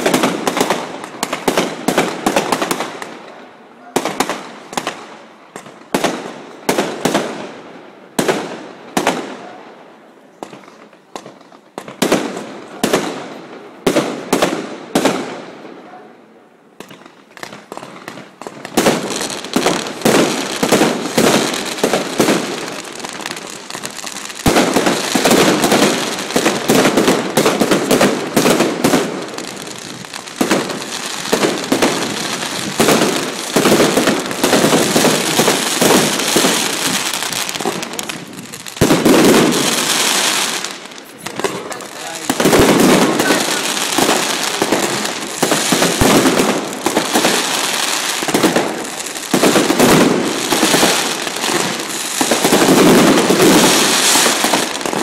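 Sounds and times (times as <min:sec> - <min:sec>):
fireworks bangs and crackle: 0:00.0 - 0:15.9, 0:16.8 - 0:55.0.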